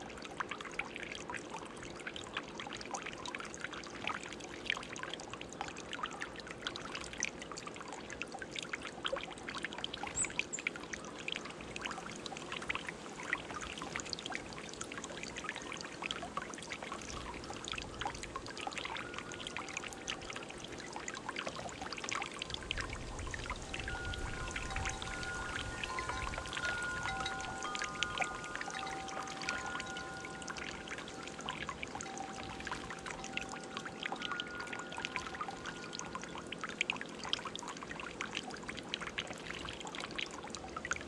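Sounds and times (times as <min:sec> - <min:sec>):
water trickling: 0:00.0 - 0:41.0.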